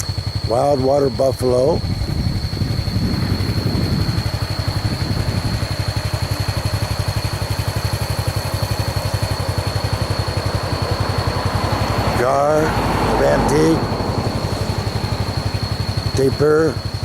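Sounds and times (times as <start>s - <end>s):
small motorcycle engine idling: 0.0s - 17.0s.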